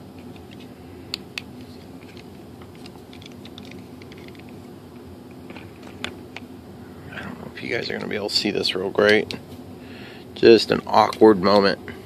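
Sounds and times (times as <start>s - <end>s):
low hum: 0.7s - 10.5s.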